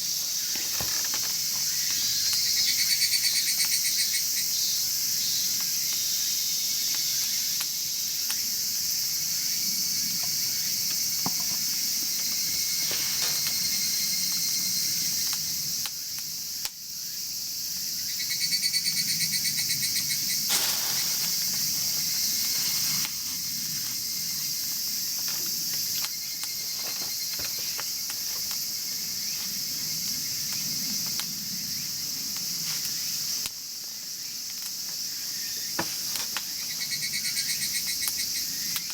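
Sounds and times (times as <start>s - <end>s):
faint wood fire crackling: 0.0s - 17.2s, 20.3s - 37.2s, 37.8s - 38.9s
pulsed insect trill: 0.0s - 33.4s
insects trilling in chorus: 0.0s - 38.9s.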